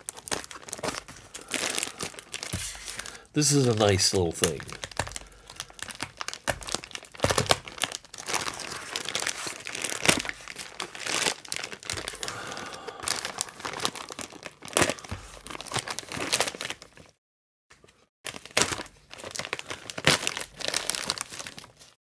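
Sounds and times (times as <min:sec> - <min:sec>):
plastic bag crinkling and rustling: 0:00.0 - 0:17.2, 0:18.3 - 0:22.0.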